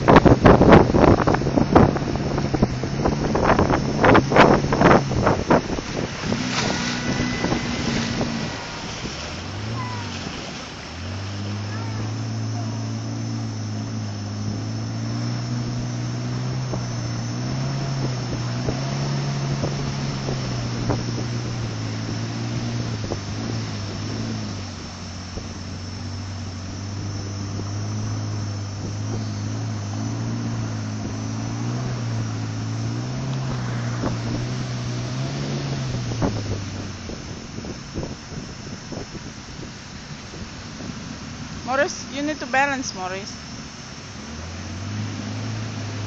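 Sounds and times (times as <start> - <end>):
outboard motor running: 0.0 - 46.0
water rushing: 0.0 - 46.0
wind: 0.0 - 46.0.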